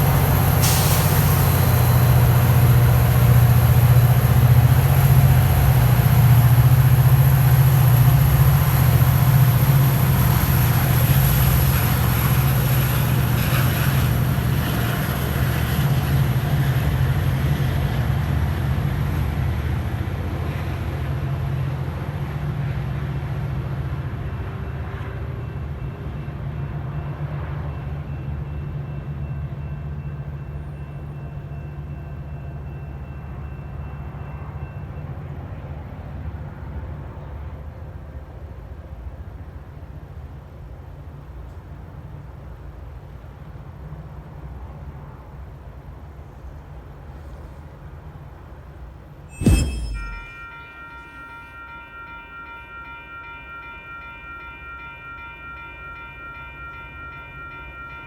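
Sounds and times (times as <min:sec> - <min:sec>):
diesel train moving away: 0:00.0 - 0:58.0.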